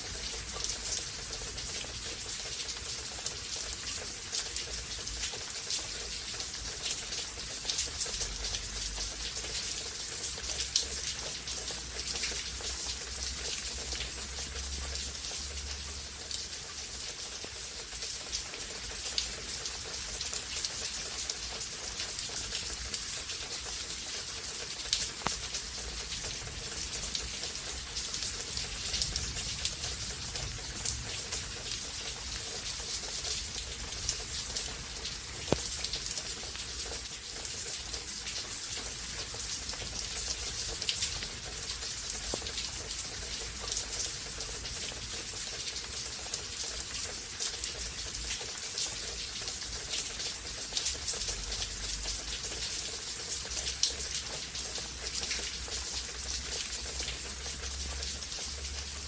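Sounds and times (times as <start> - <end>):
hiss of rainfall: 0.0 - 59.0
raindrops ticking on surfaces: 0.0 - 59.0.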